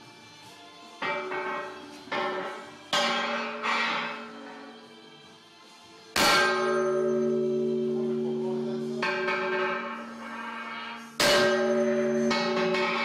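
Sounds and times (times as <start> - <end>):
sledgehammer on metal: 1.0 - 4.8, 6.2 - 13.0.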